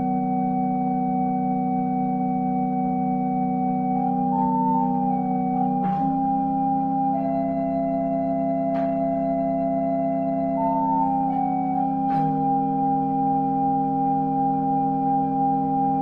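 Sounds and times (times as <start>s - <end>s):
organ sustained chords: 0.0s - 16.0s.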